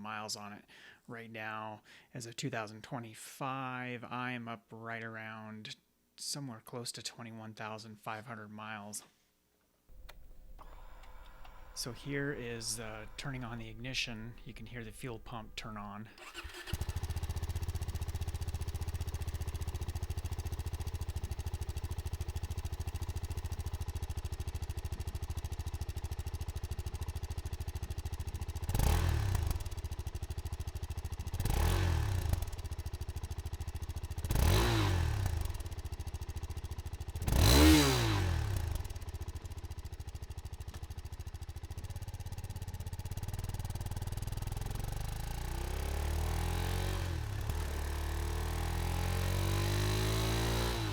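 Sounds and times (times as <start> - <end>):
motorcycle engine idling and revving: 9.9 - 50.9.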